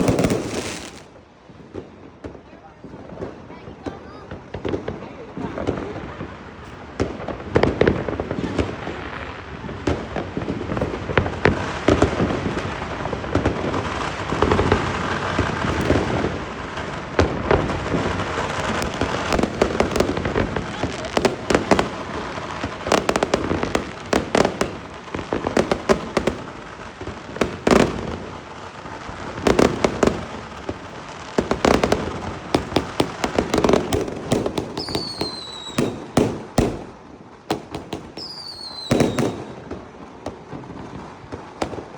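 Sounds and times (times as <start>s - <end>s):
loud firework reports: 0.0s - 1.2s, 2.3s - 41.9s
fireworks bangs and crackling: 0.0s - 41.9s.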